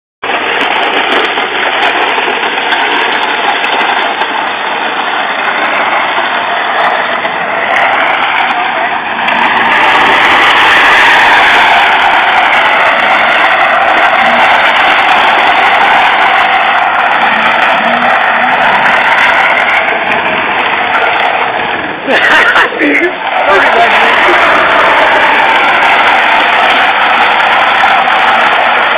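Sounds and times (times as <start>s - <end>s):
car engine running hard: 0.2s - 28.9s
tyres screeching: 4.1s - 28.9s.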